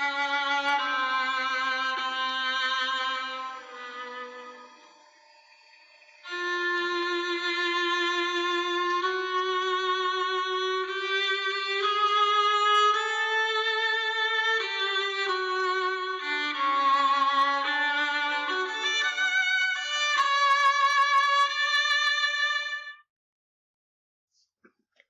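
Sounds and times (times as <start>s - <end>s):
bowed viola melody: 0.0s - 5.0s, 6.2s - 23.0s.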